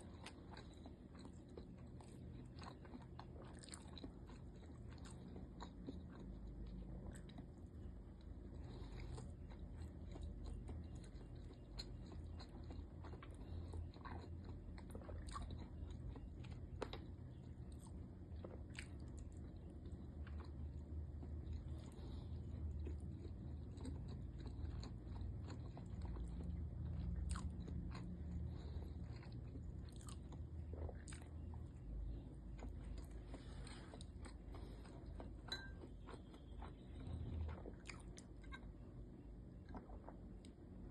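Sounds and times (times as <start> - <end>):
person chewing: 0.0 - 38.8, 39.6 - 40.9
low steady hum: 0.0 - 40.9.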